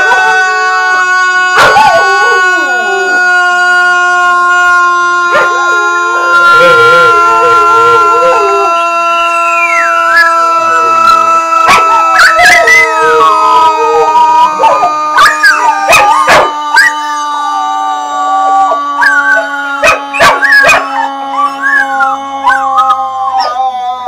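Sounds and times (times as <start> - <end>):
dogs howling: 0.0 - 24.0.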